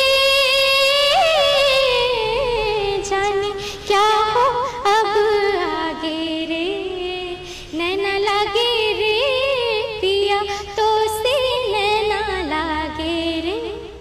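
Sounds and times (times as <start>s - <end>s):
woman singing solo: 0.0s - 14.0s.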